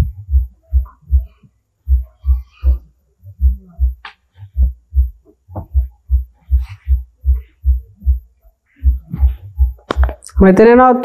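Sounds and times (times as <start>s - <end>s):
low dull thumping: 0.0s - 10.8s.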